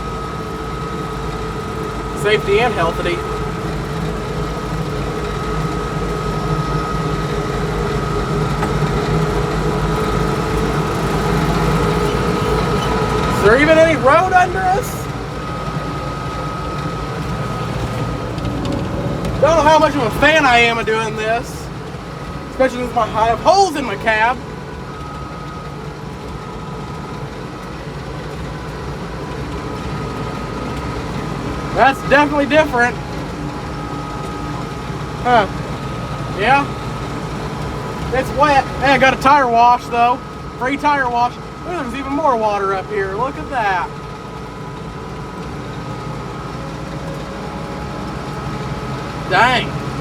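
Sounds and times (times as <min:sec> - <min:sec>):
thin whine: 0:00.0 - 0:50.0
tractor diesel engine drone: 0:00.0 - 0:50.0.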